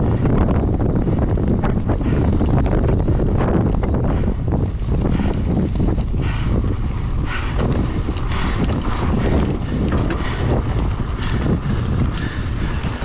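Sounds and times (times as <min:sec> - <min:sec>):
bike chain and frame rattling: 0:00.0 - 0:13.0
bike tyres on dirt: 0:00.0 - 0:13.0
wind buffeting microphone: 0:00.0 - 0:13.0.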